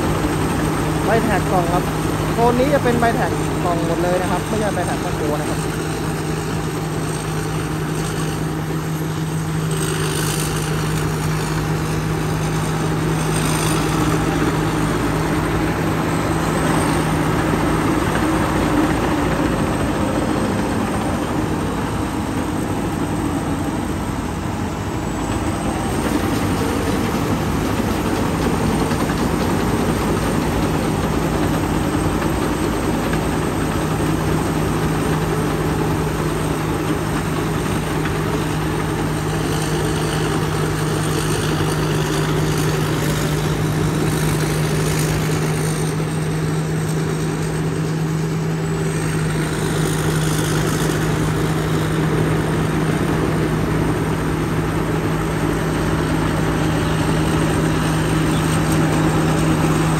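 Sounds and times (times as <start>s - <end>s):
combine harvester engine humming: 0.0s - 59.9s.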